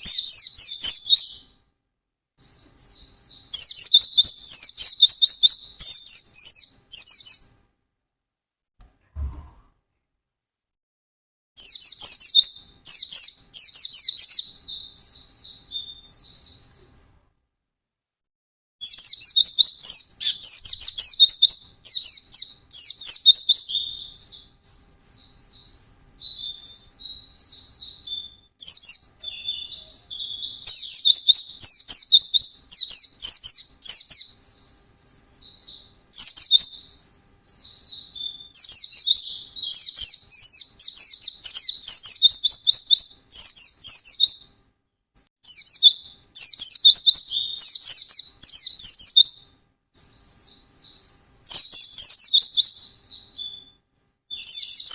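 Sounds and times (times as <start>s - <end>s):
bird high-pitched chattering song: 0.0s - 1.5s, 2.4s - 7.6s, 11.6s - 17.1s, 18.8s - 44.5s, 45.2s - 54.9s.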